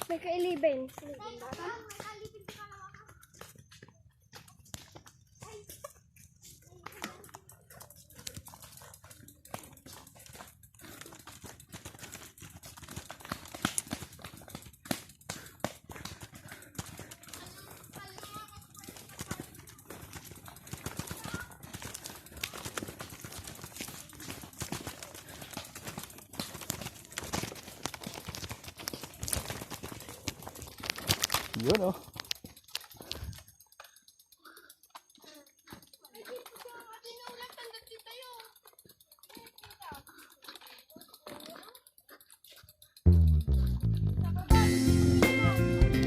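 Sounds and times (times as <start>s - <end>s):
footsteps on dirt trail: 0.0s - 40.7s.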